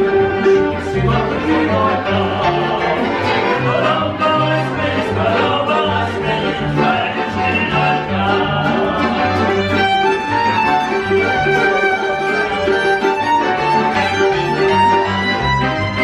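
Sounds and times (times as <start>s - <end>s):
repeating bass line: 0.0s - 16.0s
violin melody: 0.0s - 16.0s.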